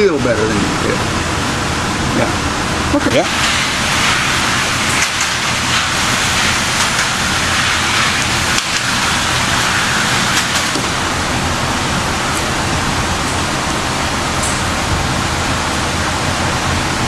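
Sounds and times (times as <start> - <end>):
rushing wind: 1.2 - 17.0.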